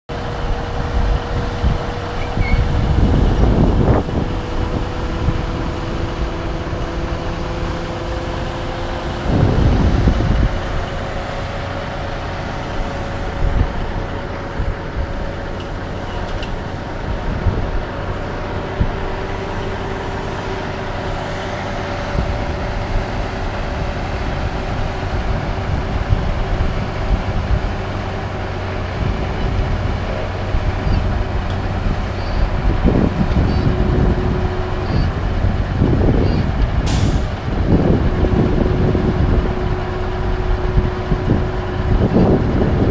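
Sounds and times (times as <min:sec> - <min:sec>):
diesel engine and hydraulics droning: 0:00.1 - 0:42.9
loud low rumbles: 0:00.1 - 0:42.9.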